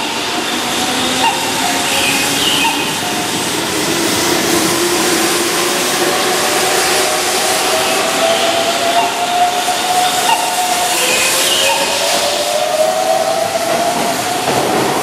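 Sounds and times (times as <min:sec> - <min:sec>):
train traction motors whining: 0:00.0 - 0:15.0
train wheel and running noise: 0:00.0 - 0:15.0.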